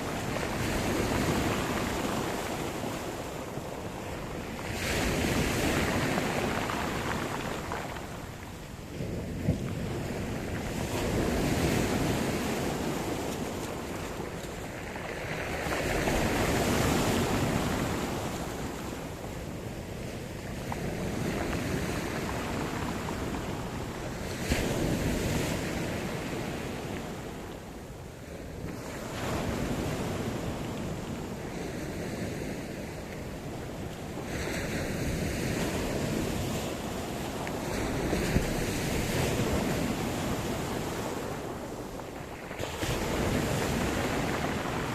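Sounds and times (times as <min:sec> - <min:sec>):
waves breaking: 0:00.0 - 0:44.9
wind on microphone: 0:00.0 - 0:44.9.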